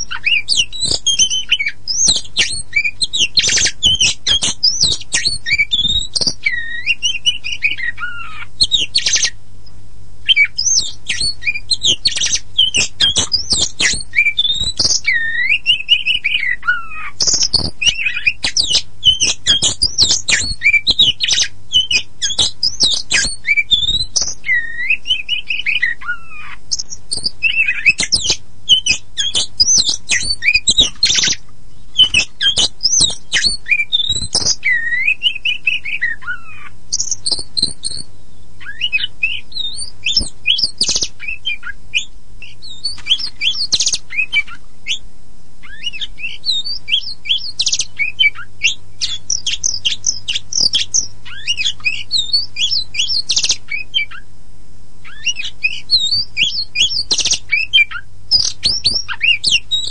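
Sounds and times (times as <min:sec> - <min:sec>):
magpie-robin singing: 0:00.0 - 0:45.0, 0:45.6 - 0:54.3, 0:55.0 - 0:59.9.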